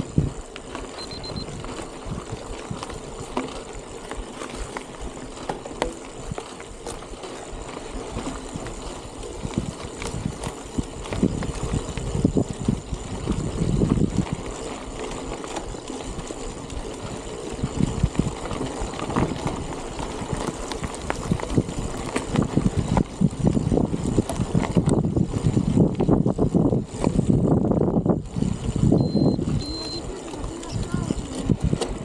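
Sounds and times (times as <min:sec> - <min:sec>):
wind buffeting microphone: 0:00.0 - 0:00.5, 0:01.2 - 0:05.4, 0:06.1 - 0:32.0.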